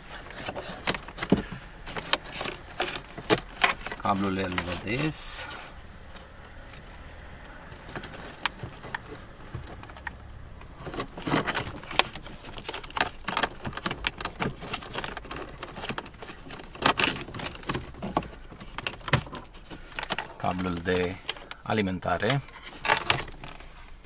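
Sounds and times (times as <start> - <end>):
cables and plastic connectors clicking: 0.0 - 24.0.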